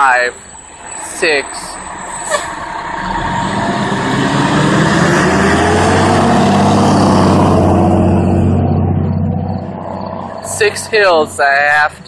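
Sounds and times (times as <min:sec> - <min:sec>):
heavy vehicle engine passing: 0:00.4 - 0:12.0.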